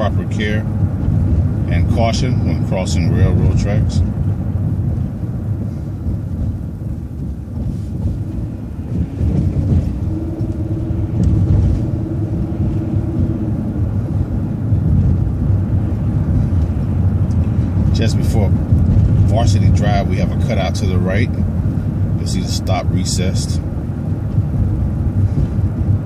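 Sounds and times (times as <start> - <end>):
bus engine and road rumble: 0.0 - 26.0
steady hum: 0.0 - 26.0.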